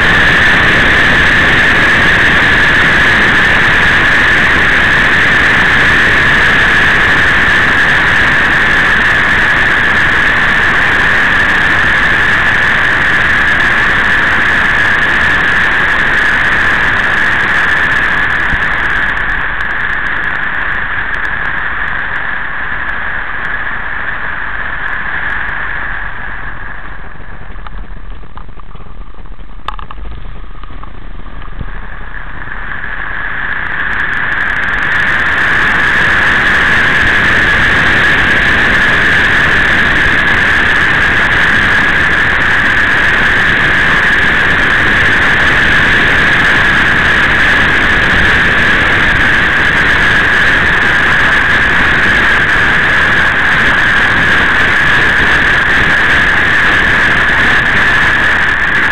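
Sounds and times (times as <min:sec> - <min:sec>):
steady high whine: 0:00.0 - 0:58.9
wind rush while riding: 0:00.0 - 0:58.9.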